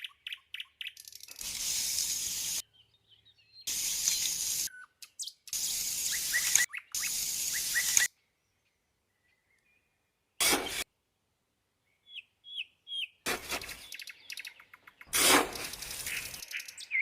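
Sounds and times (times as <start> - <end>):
small birds chirping: 0.0 - 10.8, 11.8 - 17.0.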